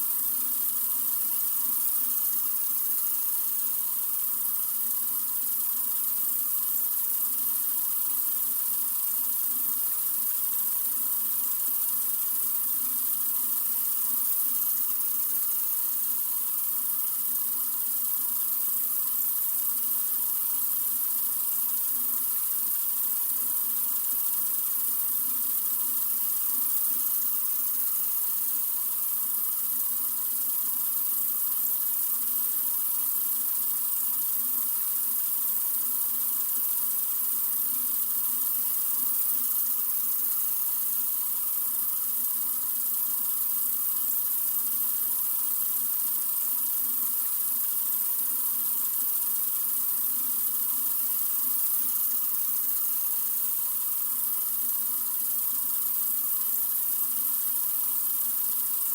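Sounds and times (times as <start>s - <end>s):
water running from faucet: 0.0s - 58.9s.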